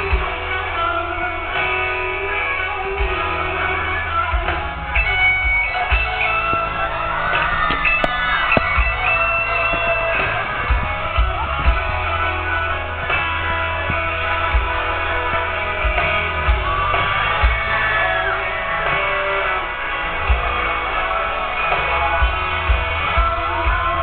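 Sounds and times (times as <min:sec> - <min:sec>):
live rock music: 0:00.0 - 0:24.0.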